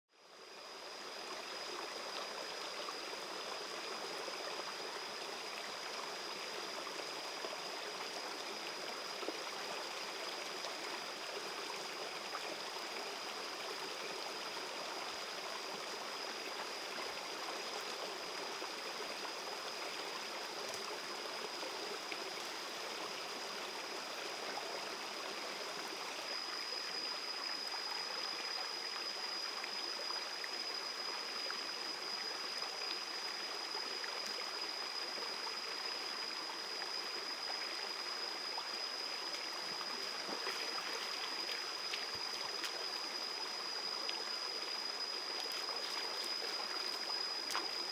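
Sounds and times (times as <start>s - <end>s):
stream water running over rocks: 0.2s - 47.9s.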